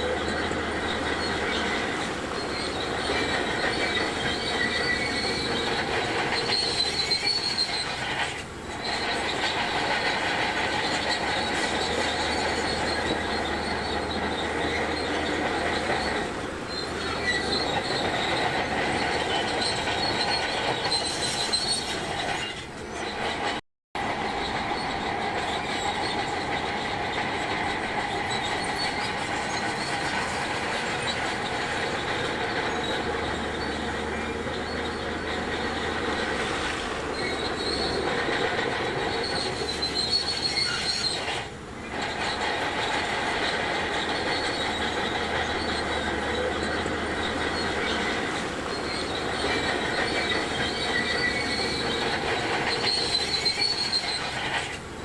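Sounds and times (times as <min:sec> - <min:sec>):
bulldozer diesel engine: 0:00.0 - 0:55.0
steel tracks squealing and clattering: 0:00.0 - 0:55.0.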